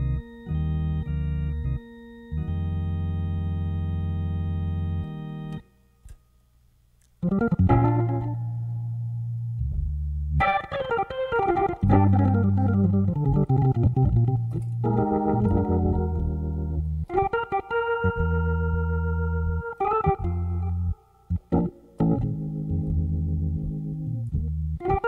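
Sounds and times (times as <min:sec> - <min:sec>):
organ playing: 0:00.0 - 0:05.8, 0:07.2 - 0:25.0.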